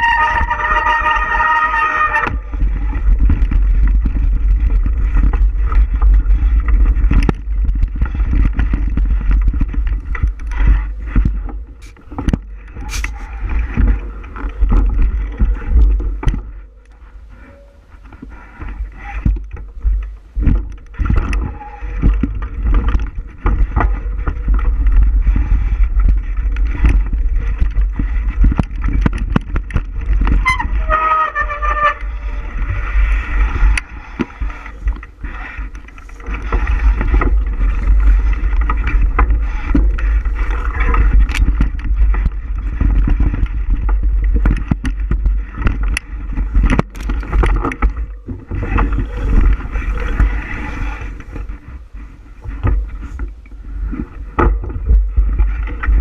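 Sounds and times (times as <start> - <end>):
bike rattling over bumps: 0.0 - 56.0
wind buffeting microphone: 0.0 - 56.0.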